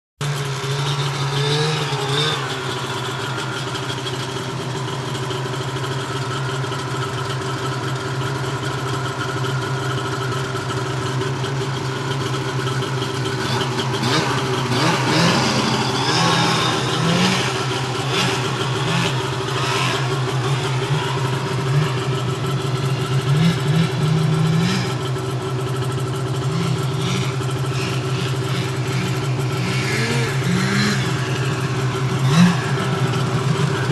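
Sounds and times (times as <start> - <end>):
snowmobile engine revving: 0.2 - 33.9.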